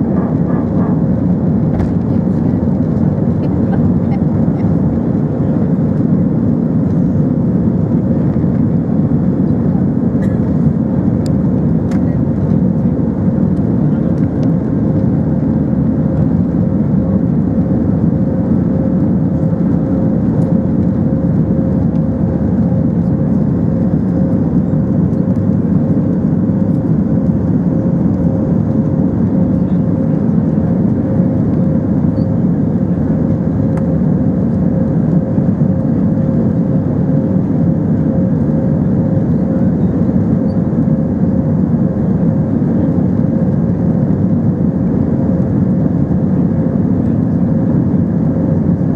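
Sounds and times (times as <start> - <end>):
jet engines droning: 0.0 - 48.9.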